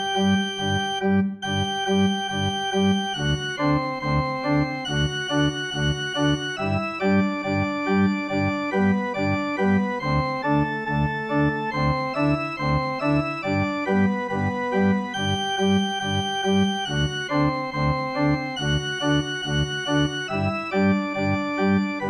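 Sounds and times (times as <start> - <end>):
button accordion playing polka: 0.0 - 22.0.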